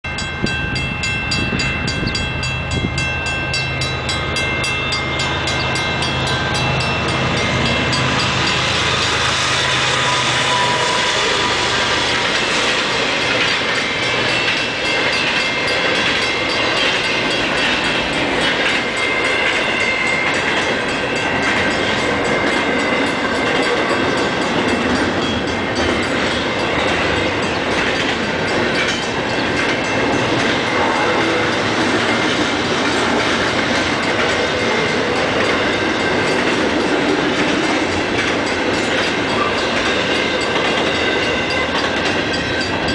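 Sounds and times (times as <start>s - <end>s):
level-crossing bell ringing: 0.0s - 42.9s
diesel locomotive rumble: 0.1s - 42.9s
train wheels clickety-clack: 1.3s - 42.9s.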